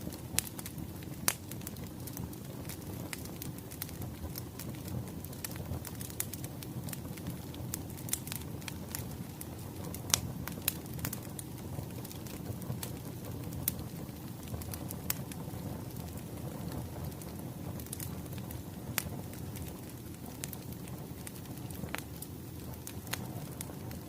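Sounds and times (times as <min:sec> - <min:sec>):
firewood crackling and popping: 0:00.0 - 0:24.0
low steady fire rumble: 0:00.0 - 0:24.0.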